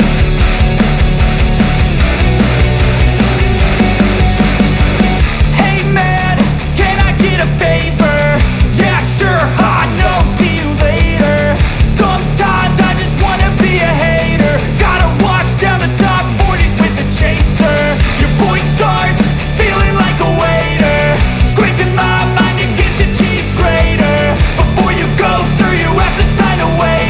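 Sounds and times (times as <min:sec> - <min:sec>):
loud rock music: 0:00.0 - 0:27.0.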